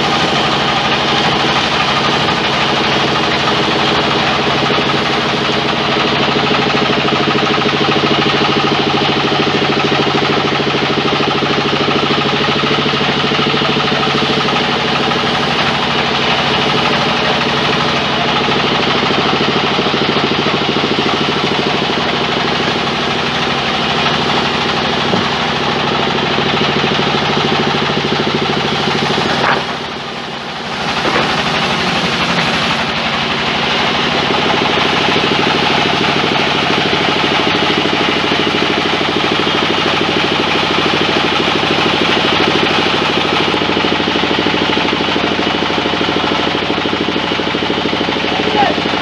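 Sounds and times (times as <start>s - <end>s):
band saw cutting log: 0.0s - 49.0s.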